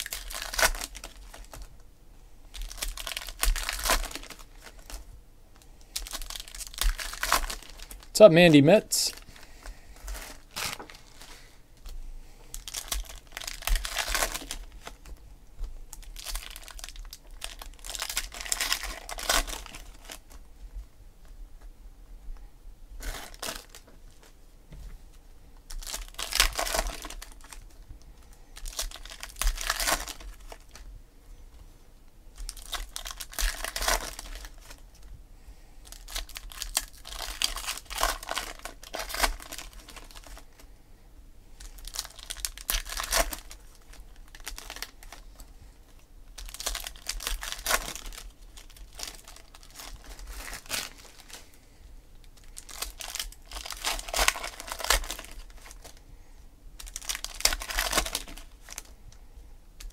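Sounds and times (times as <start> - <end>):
foil wrappers crinkling and tearing: 0.0 - 1.7, 2.5 - 8.2, 9.1 - 15.2, 15.9 - 20.4, 23.0 - 24.4, 25.7 - 30.9, 32.4 - 35.1, 35.8 - 40.7, 41.6 - 56.0, 56.8 - 59.0.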